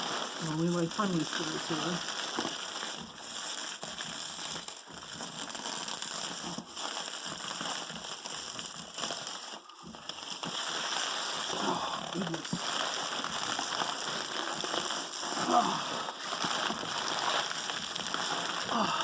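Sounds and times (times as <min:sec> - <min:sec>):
packaging wrap crackling: 0:00.0 - 0:19.0.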